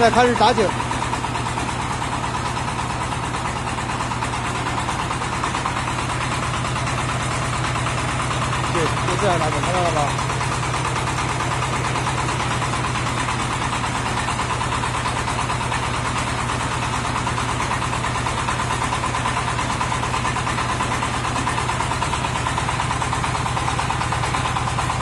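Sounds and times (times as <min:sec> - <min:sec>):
drill rig mechanical hum: 0:00.0 - 0:25.0.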